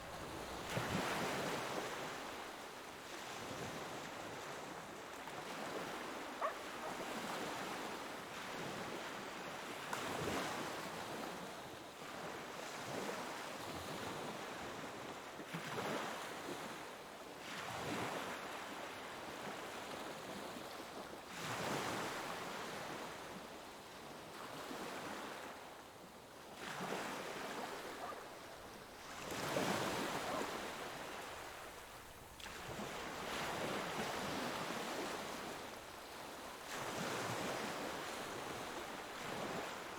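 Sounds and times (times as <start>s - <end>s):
ocean waves breaking on shore: 0.0s - 16.8s, 17.4s - 39.9s.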